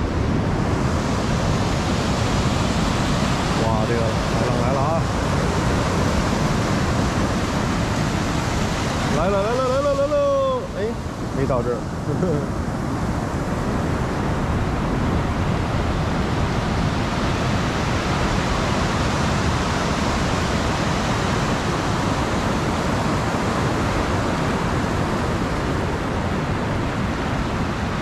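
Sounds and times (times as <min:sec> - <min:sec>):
ocean surf breaking: 0:00.0 - 0:28.0.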